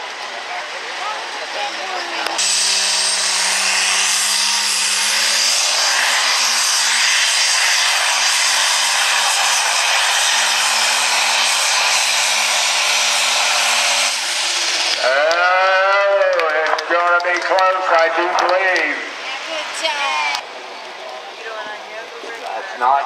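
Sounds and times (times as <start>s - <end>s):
diesel engine roaring under load: 0.0s - 23.0s.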